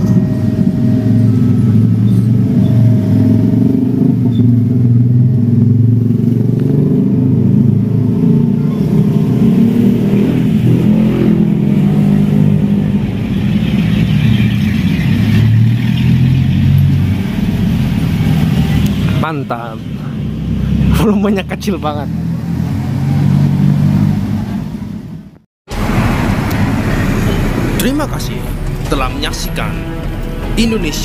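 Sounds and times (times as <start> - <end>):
car and motorcycle engines revving: 0.0 - 31.0.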